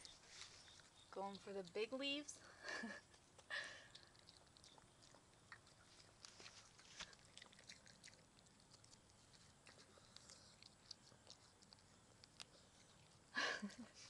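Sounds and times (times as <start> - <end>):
dog chewing grass: 0.0 - 14.0.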